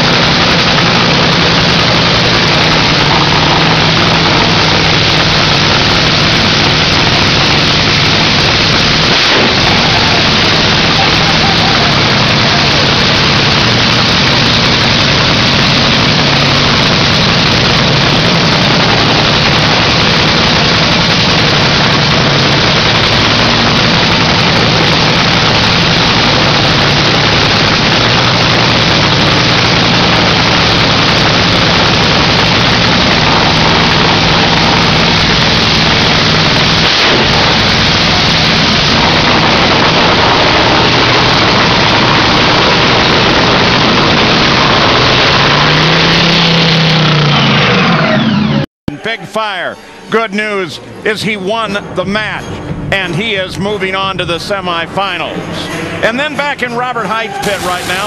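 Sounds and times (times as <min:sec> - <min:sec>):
dragster engine running: 0:00.0 - 0:58.0.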